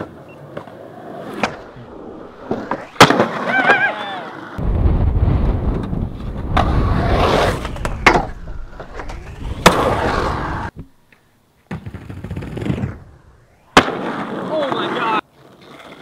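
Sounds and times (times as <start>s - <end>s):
skateboard impacts: 0.0s - 4.6s, 5.5s - 16.0s
skateboard wheels rolling on concrete: 0.0s - 16.0s.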